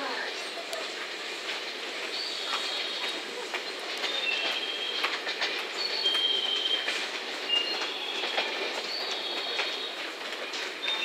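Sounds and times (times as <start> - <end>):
freight train wagons rolling: 0.0 - 11.0
rail joint clicks: 0.0 - 11.0.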